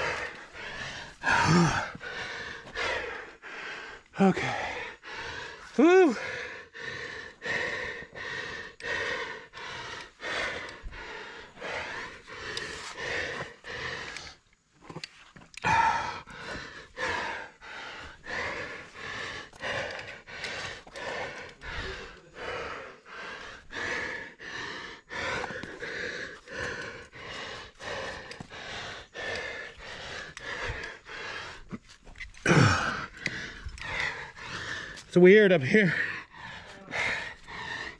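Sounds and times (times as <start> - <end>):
person breathing hard: 0.0 - 37.9.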